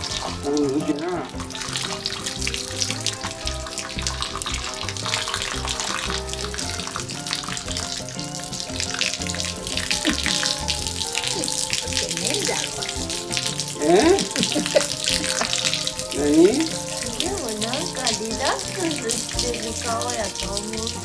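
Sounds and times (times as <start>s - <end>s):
music with pulsing bass: 0.0s - 21.0s
water pouring and splashing: 0.0s - 21.0s.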